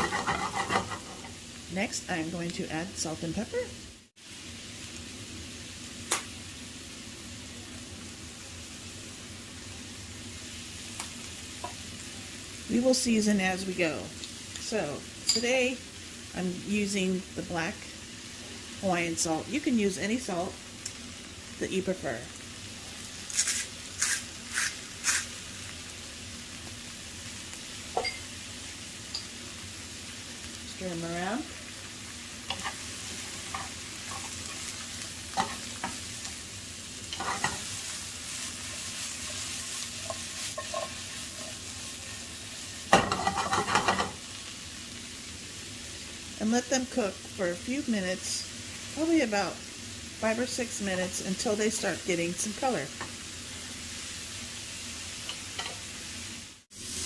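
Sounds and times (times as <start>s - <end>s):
mushrooms sizzling in oil: 0.0s - 57.0s.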